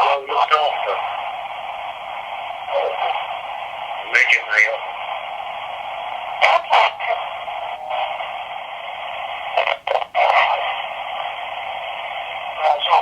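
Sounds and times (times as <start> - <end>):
radio static: 0.0 - 13.0
snatches of radio sound: 0.0 - 13.0.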